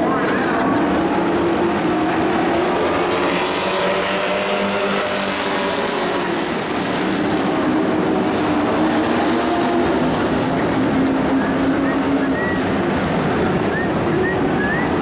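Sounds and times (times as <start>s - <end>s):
race truck engines droning: 0.0s - 15.0s.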